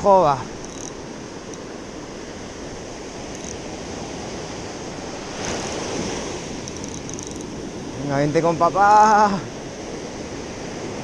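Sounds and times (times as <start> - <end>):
surf washing against rocks: 0.0 - 11.0
wind on microphone: 0.0 - 11.0.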